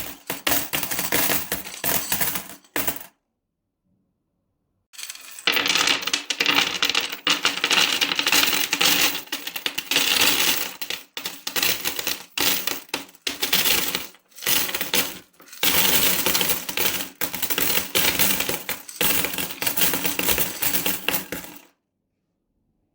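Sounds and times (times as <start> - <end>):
coins pouring and jingling: 0.0 - 3.1, 5.0 - 21.6.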